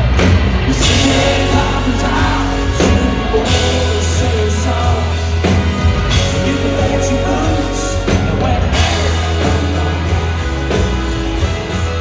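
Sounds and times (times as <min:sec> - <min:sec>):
live country band: 0:00.0 - 0:12.0.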